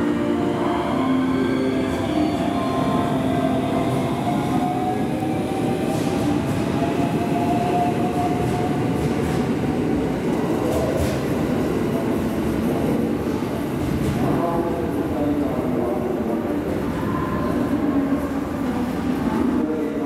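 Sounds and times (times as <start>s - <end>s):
train wheels rumbling on rail: 3.4s - 19.8s.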